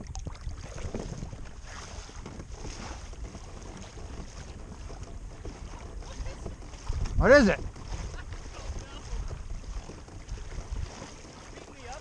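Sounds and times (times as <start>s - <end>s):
water splashing and lapping: 0.0s - 12.0s
wind buffeting microphone: 0.0s - 12.0s.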